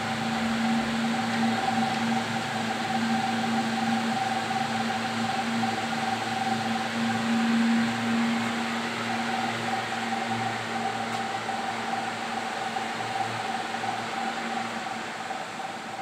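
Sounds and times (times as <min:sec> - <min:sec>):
cooling fans humming: 0:00.0 - 0:16.0.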